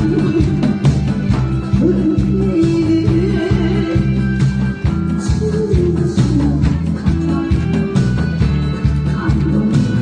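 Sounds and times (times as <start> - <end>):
backing music with steady beat: 0.0 - 10.0
bass line: 0.0 - 10.0.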